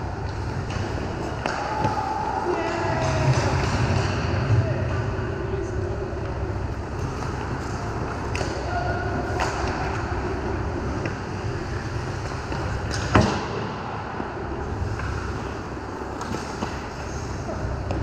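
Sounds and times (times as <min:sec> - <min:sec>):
skates and sticks on ice: 0:00.2 - 0:04.6, 0:06.2 - 0:13.7, 0:14.7 - 0:18.0.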